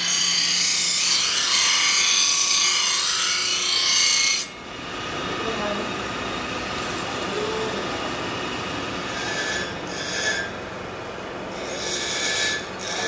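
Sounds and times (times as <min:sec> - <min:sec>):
grinding wheel running: 0:00.0 - 0:13.0.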